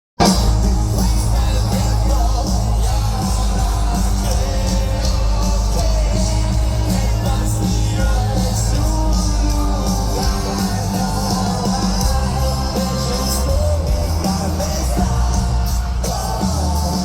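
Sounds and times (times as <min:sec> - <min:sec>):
rock band playing: 0:00.2 - 0:17.0.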